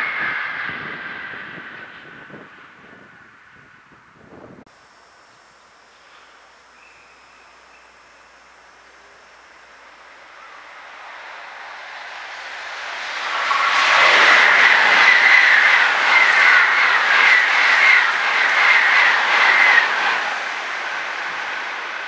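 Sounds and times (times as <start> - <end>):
train rushing past: 0.0 - 3.7, 6.8 - 22.0
high steady whine: 0.0 - 22.0.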